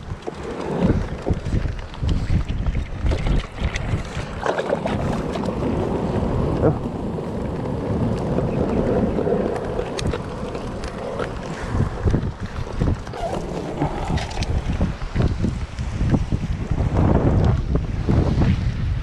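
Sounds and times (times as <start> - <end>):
surf washing against rocks: 0.0 - 19.0
wind buffeting microphone: 0.0 - 19.0.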